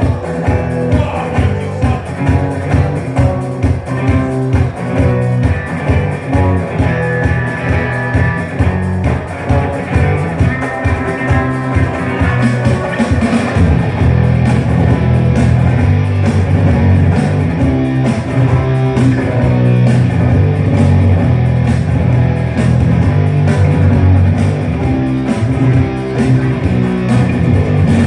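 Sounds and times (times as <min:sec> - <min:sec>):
instrumental rock music with guitar: 0:00.0 - 0:28.0.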